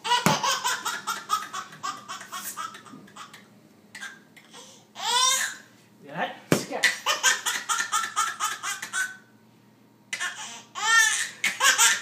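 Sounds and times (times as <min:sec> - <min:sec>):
baby laughing: 0:00.0 - 0:05.6, 0:06.8 - 0:09.2, 0:10.1 - 0:12.0.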